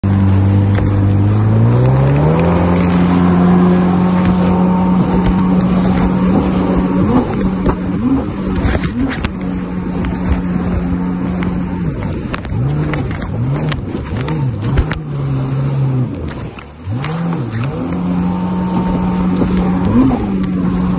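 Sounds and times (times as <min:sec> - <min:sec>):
jet ski engine accelerating: 0:00.0 - 0:20.9
rushing water and spray: 0:00.0 - 0:20.9.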